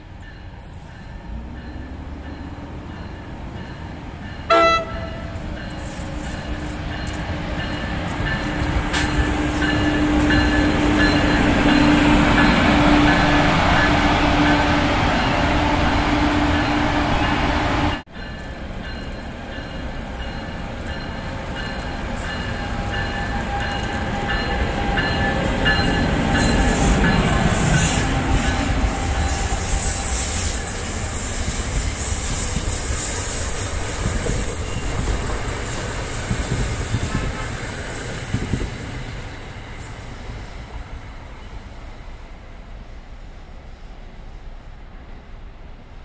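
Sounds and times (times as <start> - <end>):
train wheels rumbling on rails: 0.0 - 43.6.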